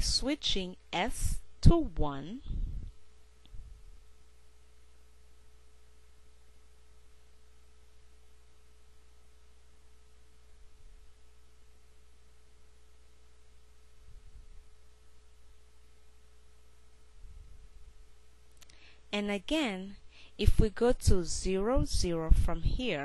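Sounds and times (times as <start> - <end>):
low electrical hum: 0.0 - 23.0
thin steady whine: 0.0 - 23.0.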